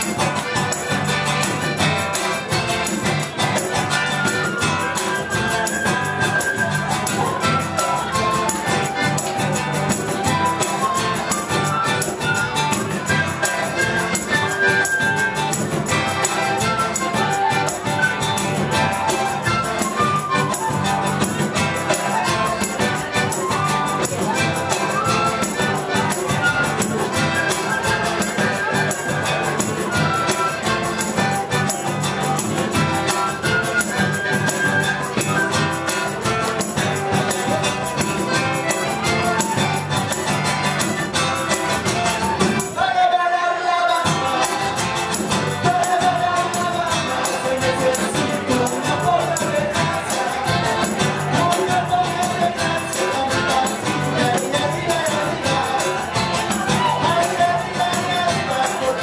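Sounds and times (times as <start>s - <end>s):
congas: 0.0s - 59.0s
flute and horn melody: 0.0s - 59.0s
live latin band playing: 0.0s - 59.0s.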